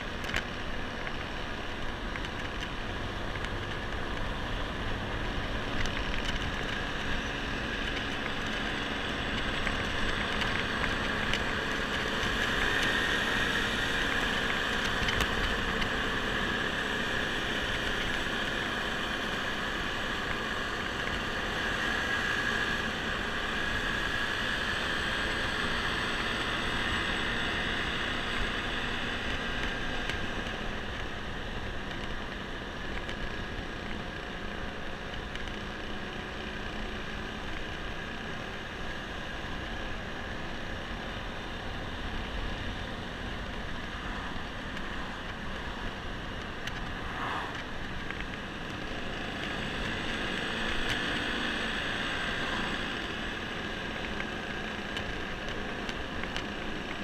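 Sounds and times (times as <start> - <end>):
road and wind noise: 0.0 - 57.0
scooter engine drone: 0.0 - 57.0.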